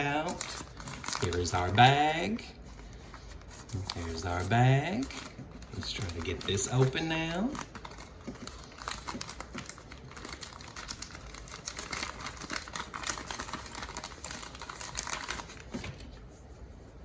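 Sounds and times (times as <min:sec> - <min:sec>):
plastic bag crinkling: 0:00.0 - 0:02.6, 0:03.2 - 0:16.3.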